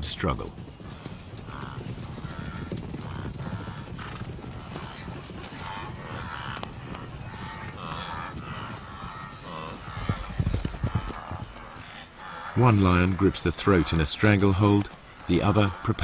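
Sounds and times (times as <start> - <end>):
zebra distress calls: 0.9 - 16.0.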